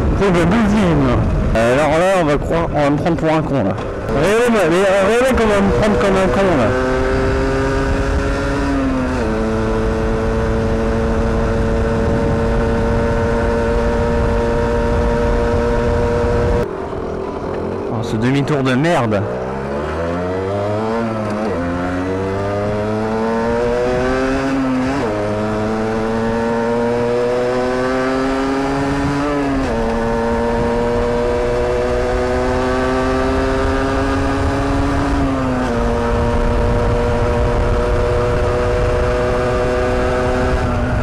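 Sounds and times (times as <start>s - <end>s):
wind rumbling on microphone: 0.0s - 4.6s, 5.3s - 18.2s, 19.2s - 41.0s
two-stroke engine revving through gears: 3.8s - 16.7s, 18.2s - 41.0s.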